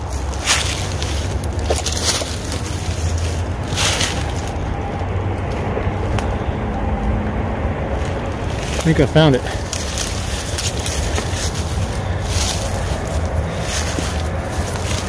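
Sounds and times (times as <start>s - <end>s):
footsteps crunching dry leaves: 0.0s - 6.5s, 8.0s - 15.0s
steady low rumble: 0.0s - 15.0s.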